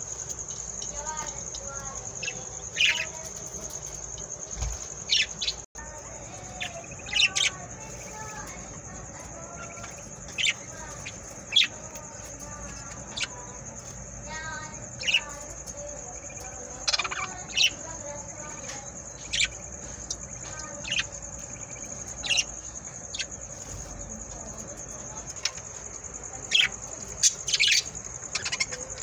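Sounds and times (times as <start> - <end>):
wavering bird calls: 0.0 - 29.0
budgerigars chirping: 1.1 - 29.0.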